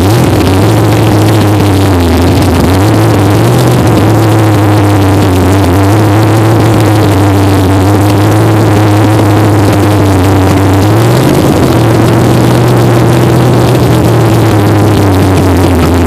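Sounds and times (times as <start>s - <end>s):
car engine idling loudly: 0.0s - 16.0s.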